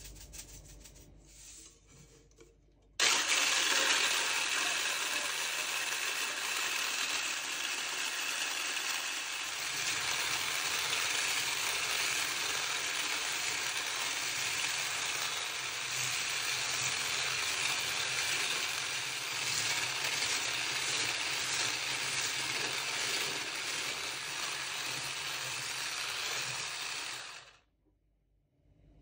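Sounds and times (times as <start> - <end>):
stick blender whisking in steel bowl: 3.0 - 27.6.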